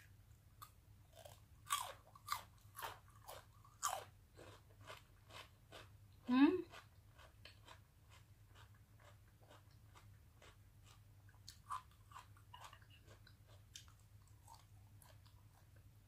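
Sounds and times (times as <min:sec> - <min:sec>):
low steady hum: 0:00.0 - 0:16.0
person chewing food: 0:00.6 - 0:15.9.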